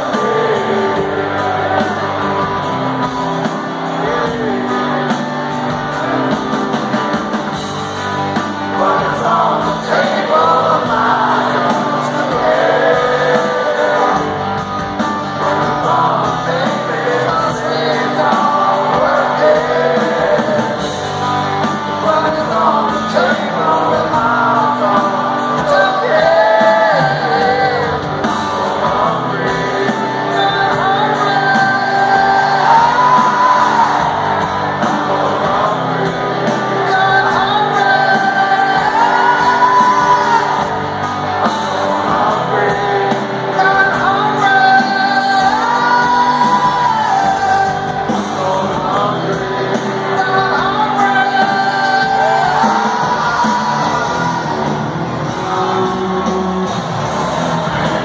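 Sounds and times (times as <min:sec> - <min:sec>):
crowd shouting along: 0:00.0 - 0:58.0
live rock band and singer: 0:00.0 - 0:58.0.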